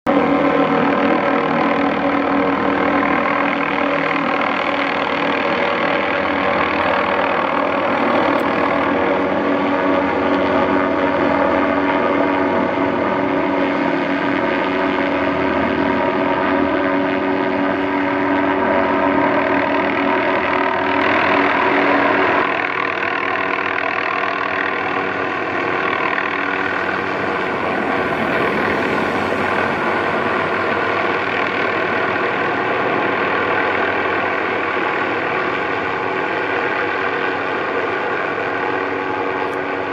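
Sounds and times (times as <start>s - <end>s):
helicopter engine and rotor: 0.1s - 39.9s.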